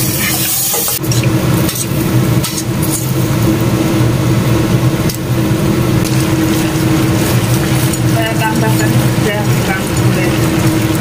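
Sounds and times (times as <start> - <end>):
loud machine hum: 0.0 - 11.0.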